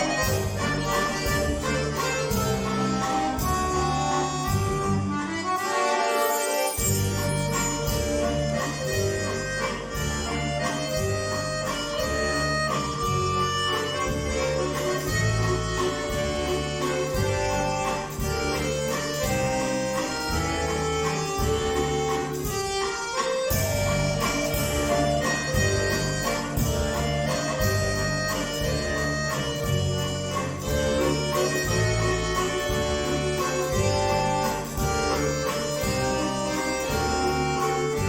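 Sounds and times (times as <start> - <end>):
accordion duet: 0.0 - 38.0.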